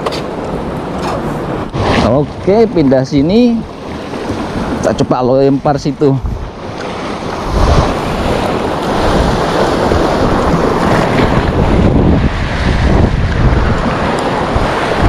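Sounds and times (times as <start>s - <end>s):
sea waves breaking on shore: 0.0s - 15.0s
wind buffeting microphone: 0.0s - 15.0s.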